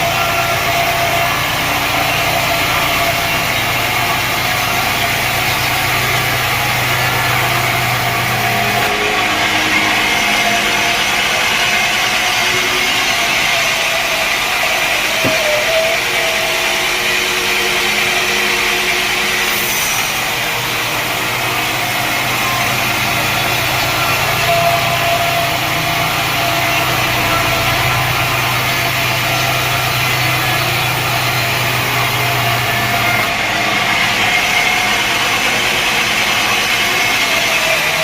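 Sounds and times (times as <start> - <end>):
sawmill machinery humming: 0.0 - 38.0.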